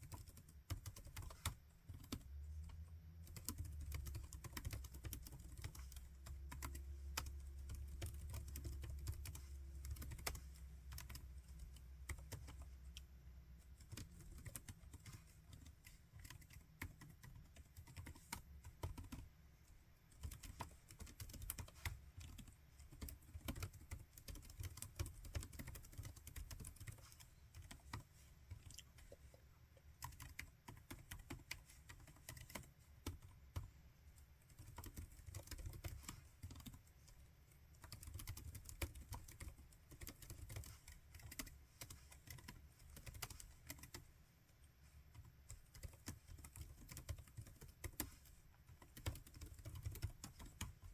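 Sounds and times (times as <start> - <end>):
laptop keyboard typing: 0.0 - 19.4, 20.0 - 50.9.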